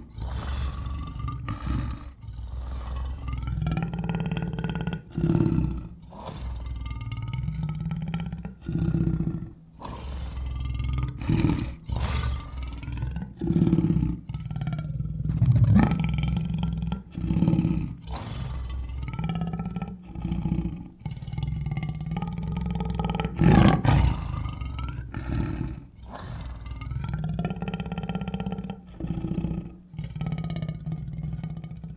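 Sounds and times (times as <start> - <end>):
lion growling: 0.0 - 31.9.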